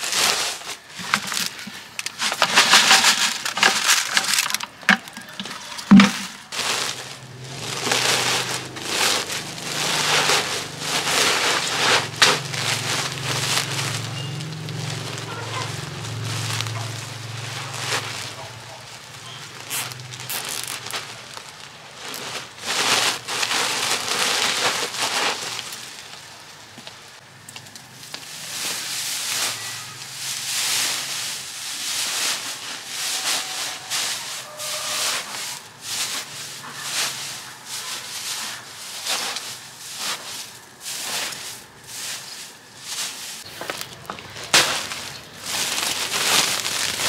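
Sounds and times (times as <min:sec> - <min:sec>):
dry straw crackling and rustling: 0:00.0 - 0:47.0
plastic sack rustling: 0:00.0 - 0:47.0.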